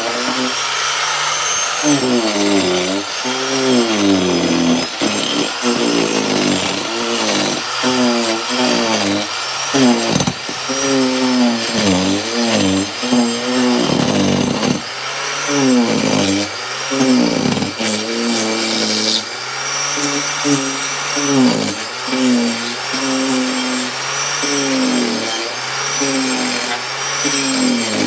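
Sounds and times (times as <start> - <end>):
power tool motor: 0.0 - 28.0.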